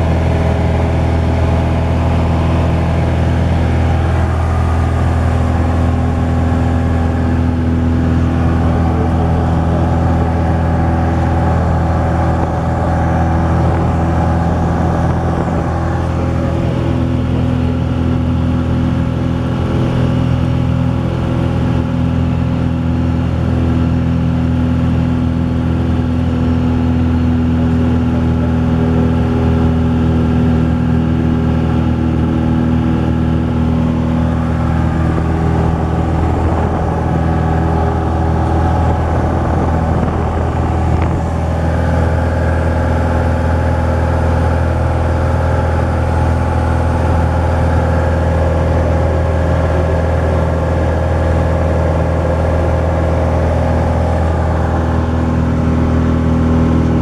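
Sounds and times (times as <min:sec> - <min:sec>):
airplane engine drone in cabin: 0:00.0 - 0:57.0.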